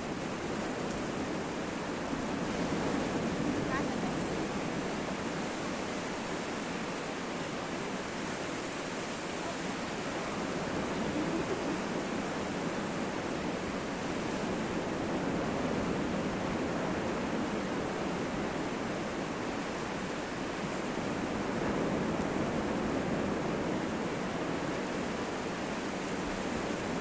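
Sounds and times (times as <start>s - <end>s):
sea surf breaking on beach: 0.0s - 27.0s.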